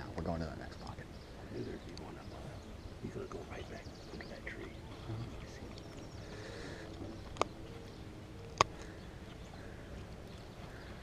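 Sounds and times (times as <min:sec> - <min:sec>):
faint outdoor background: 0:00.0 - 0:11.0.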